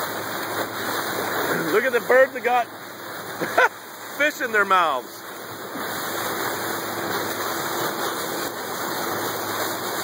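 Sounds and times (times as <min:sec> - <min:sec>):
sea water rushing: 0:00.0 - 0:10.0
wind: 0:00.0 - 0:10.0.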